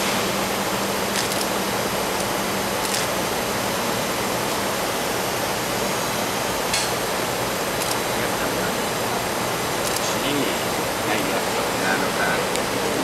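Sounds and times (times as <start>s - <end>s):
ventilation air rushing: 0.0s - 13.0s.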